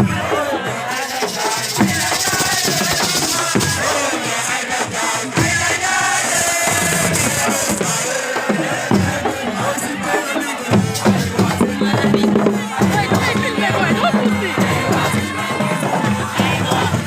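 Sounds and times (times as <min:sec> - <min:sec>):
crowd singing and chanting: 0:00.0 - 0:17.0
drum strikes: 0:00.0 - 0:17.0
shaken percussion rattling: 0:00.1 - 0:17.0.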